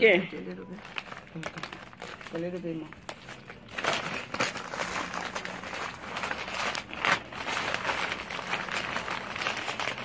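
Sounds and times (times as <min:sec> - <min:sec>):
stiff fabric crinkling and rustling: 0:00.3 - 0:10.0.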